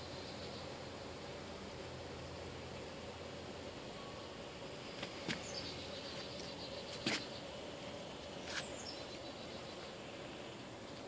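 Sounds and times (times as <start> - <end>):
faint constant hum: 0.0 - 11.0
outdoor background hiss: 0.0 - 11.0.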